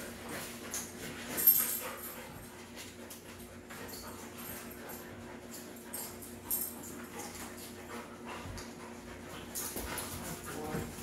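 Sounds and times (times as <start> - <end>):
dogs play-fighting: 0.0 - 11.0
steady low hum: 0.0 - 11.0.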